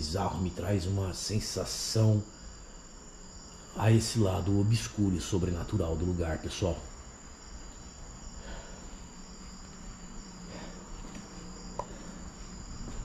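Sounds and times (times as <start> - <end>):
crickets chirping: 0.0 - 13.0
faint low hum: 0.0 - 13.0.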